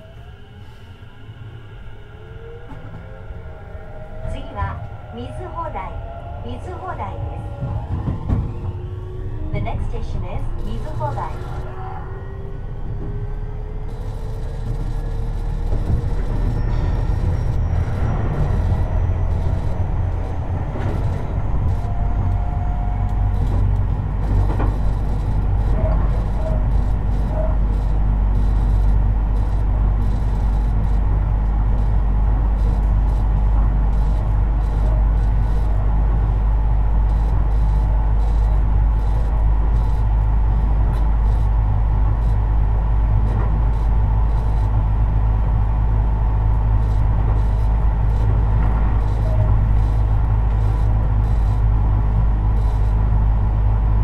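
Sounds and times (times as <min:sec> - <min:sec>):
train traction motor whine: 0:00.0 - 0:54.0
wheels rumbling on rail: 0:00.0 - 0:54.0.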